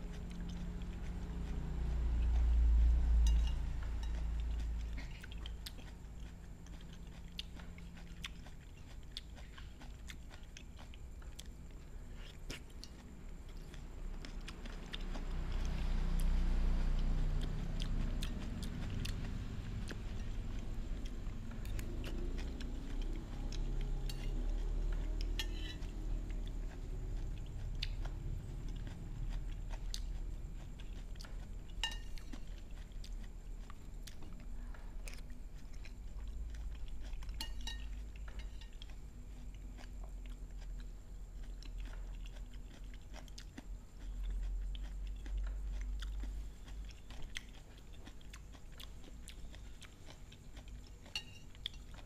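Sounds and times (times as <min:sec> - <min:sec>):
chewing: 0:00.0 - 0:52.0.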